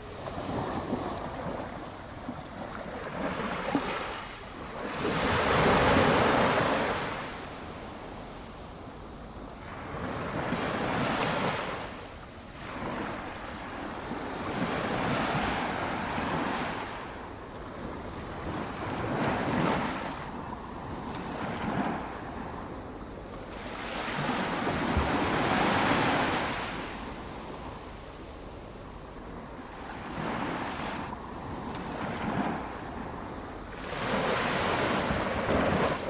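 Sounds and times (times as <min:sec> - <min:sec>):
waves washing up the beach: 0:00.0 - 0:36.0.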